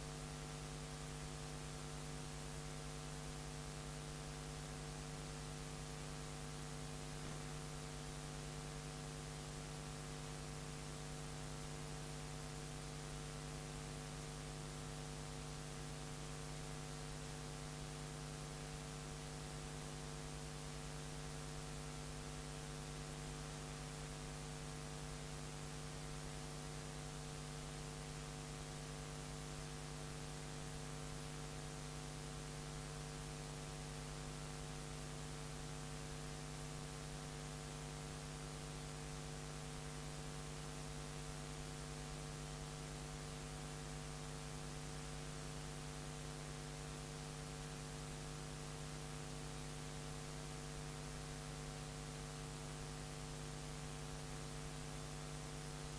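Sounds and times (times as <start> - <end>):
electrical mains hum: 0.0 - 55.9.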